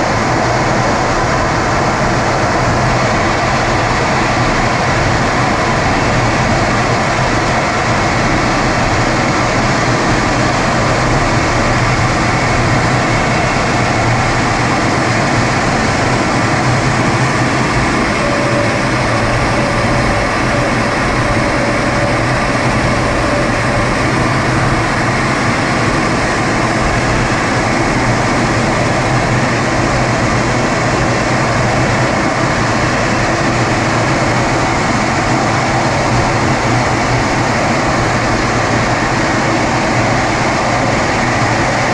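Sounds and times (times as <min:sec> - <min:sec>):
jet engine rumble: 0:00.0 - 0:41.9.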